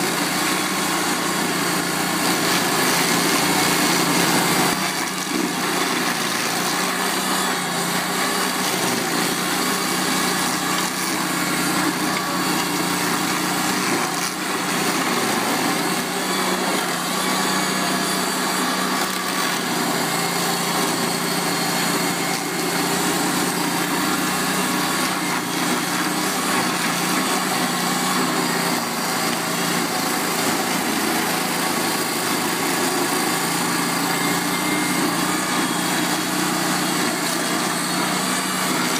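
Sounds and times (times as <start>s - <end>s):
cutting wheel grinding roots: 0.0s - 38.9s.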